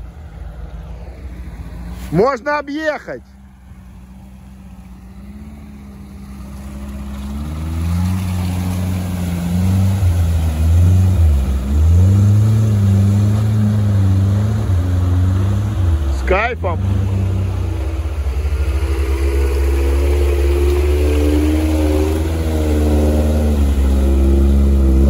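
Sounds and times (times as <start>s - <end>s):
engine revving: 4.0s - 25.0s.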